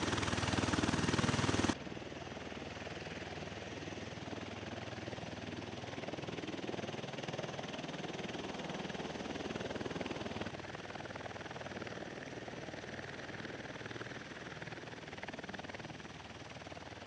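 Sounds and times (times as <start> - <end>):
aircraft rotor pulsing: 0.0 - 17.0.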